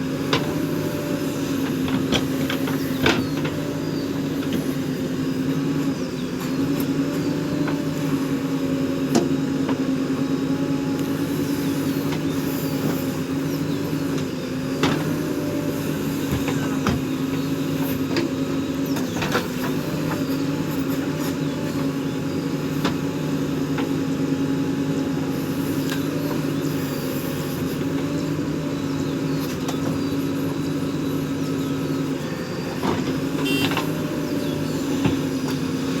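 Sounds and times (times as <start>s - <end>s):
diesel engine running steadily: 0.0s - 36.0s.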